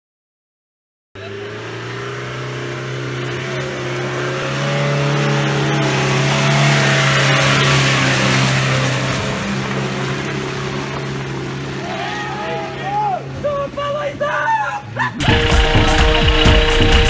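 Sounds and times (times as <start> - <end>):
car engine driving under load: 1.2 - 17.0.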